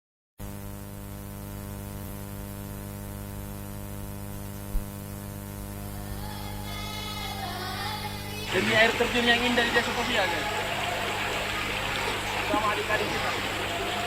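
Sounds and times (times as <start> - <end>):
electric hum with static: 0.4 - 14.0.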